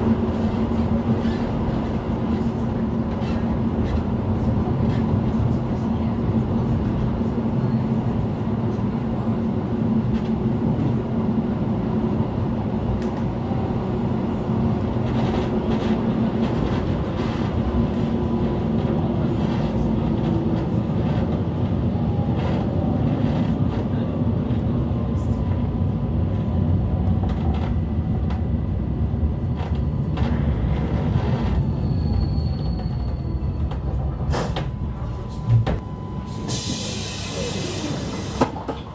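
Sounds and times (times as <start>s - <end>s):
train wheels rumbling on track: 0.0s - 38.9s.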